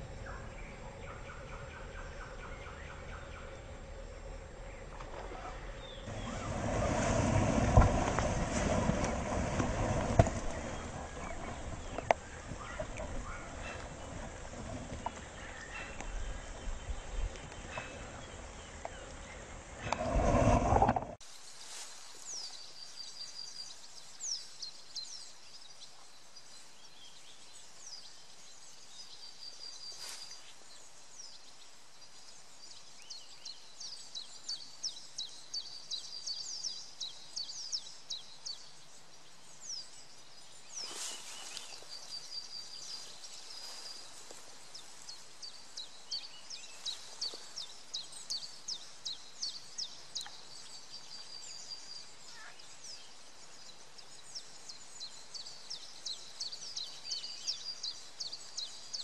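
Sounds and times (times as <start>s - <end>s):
faint outdoor hiss: 0.0s - 59.0s
songbirds chirping: 0.0s - 59.0s.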